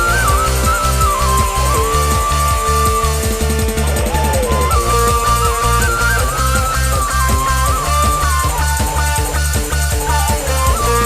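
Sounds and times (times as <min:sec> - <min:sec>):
street band playing: 0:00.0 - 0:11.0.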